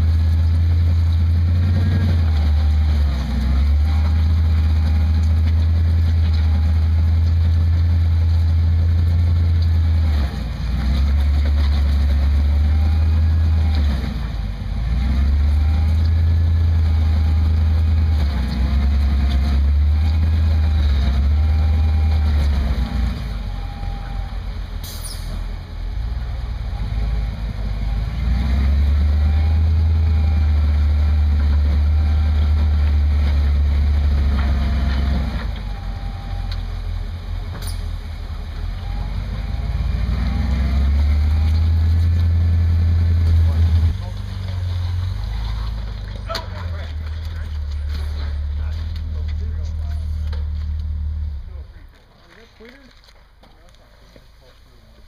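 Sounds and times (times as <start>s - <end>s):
buggy engine running under load: 0.0s - 55.0s.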